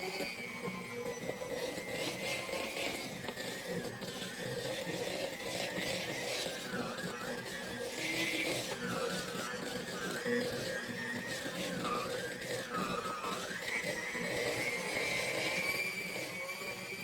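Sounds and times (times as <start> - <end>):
batter scraping and stirring in bowl: 1.6 - 15.6.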